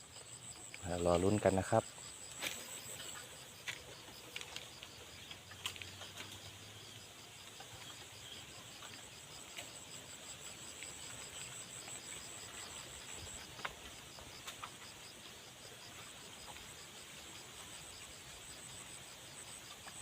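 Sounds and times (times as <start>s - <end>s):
insect high steady trill: 0.0s - 20.0s
insect rapid pulsed call: 0.0s - 20.0s.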